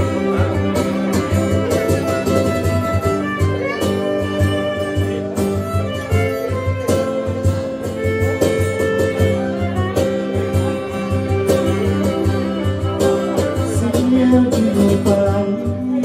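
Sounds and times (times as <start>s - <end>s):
bowed violin melody: 0.0s - 14.8s
cajon beat: 0.0s - 16.0s
strummed acoustic guitar: 0.0s - 16.0s.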